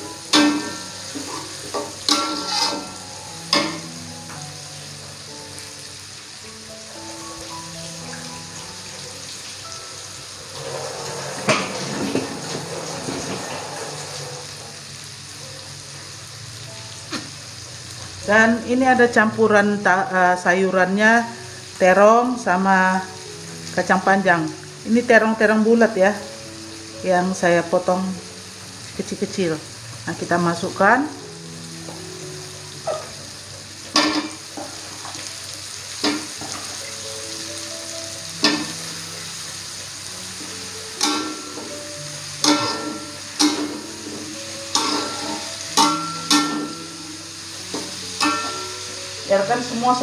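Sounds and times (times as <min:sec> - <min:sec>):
vegetables sizzling in hot oil: 0:00.0 - 0:50.0.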